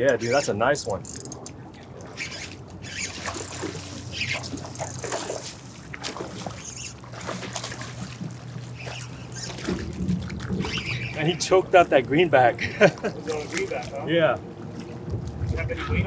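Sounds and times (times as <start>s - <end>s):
water splashing against rocks: 1.9s - 16.0s.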